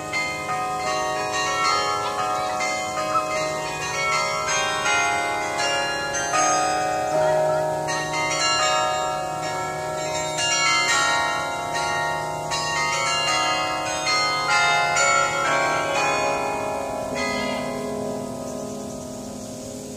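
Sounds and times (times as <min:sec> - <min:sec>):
carillon bells playing tune: 0:00.0 - 0:19.9.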